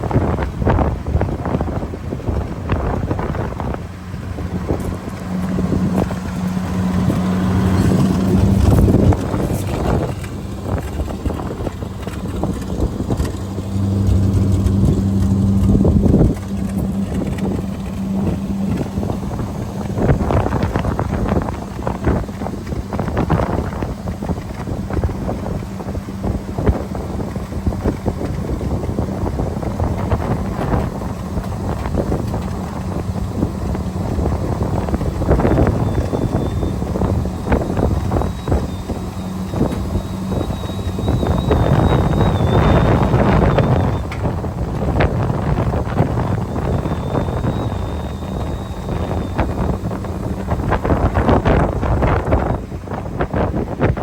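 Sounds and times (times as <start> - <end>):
truck engine humming: 0.0 - 54.0
wind buffeting microphone: 0.0 - 54.0.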